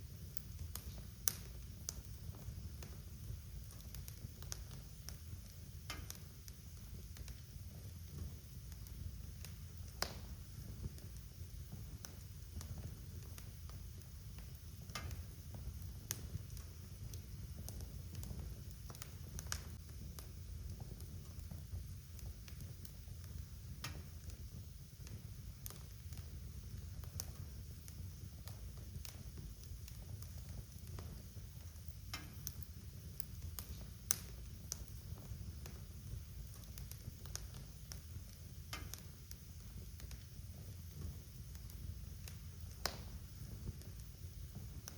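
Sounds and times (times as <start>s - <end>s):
fire pops and snaps: 0.0s - 44.9s
wood fire crackling: 0.0s - 44.9s.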